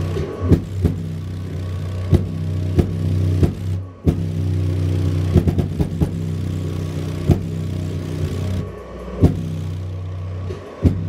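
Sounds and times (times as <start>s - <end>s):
deep bass drone: 0.0s - 11.0s
sharp beats: 0.0s - 11.0s.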